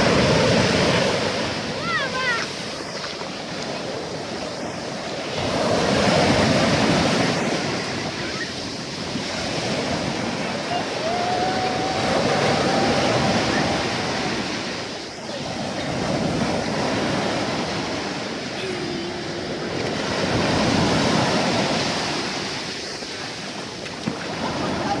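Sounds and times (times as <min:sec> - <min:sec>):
surf washing on shore: 0:00.0 - 0:25.0.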